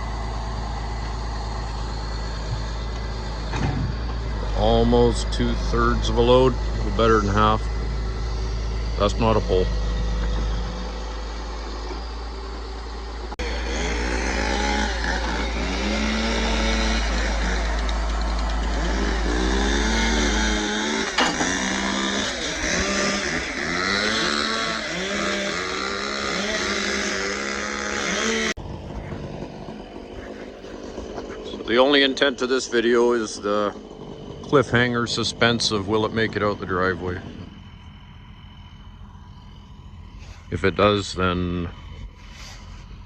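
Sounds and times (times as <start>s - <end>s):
low rumble: 0.0s - 24.0s, 28.6s - 43.0s
diesel truck engine revving: 0.0s - 43.0s.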